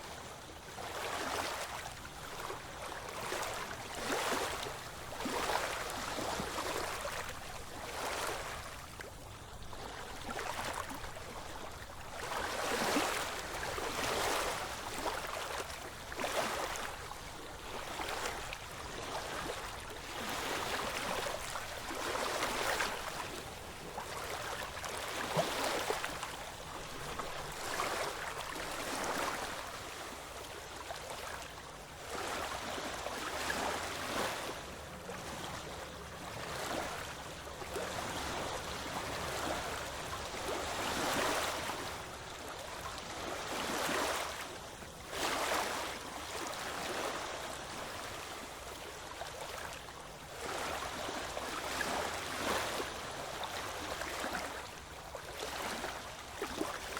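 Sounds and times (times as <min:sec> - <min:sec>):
ocean waves washing ashore: 0:00.0 - 0:49.6.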